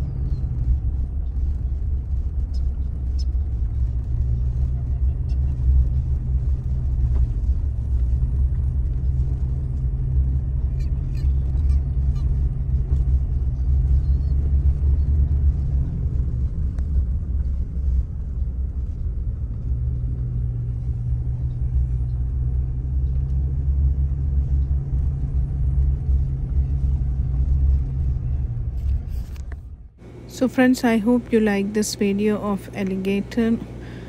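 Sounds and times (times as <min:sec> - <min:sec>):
car driving on unpaved road: 0:00.0 - 0:30.4.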